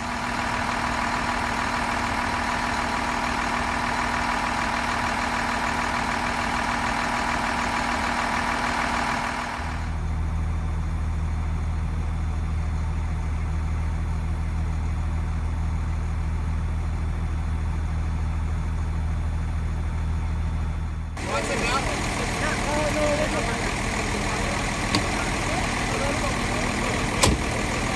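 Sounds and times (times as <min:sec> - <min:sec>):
deep engine hum: 0:00.0 - 0:27.9
vehicle engine idling: 0:00.0 - 0:27.9.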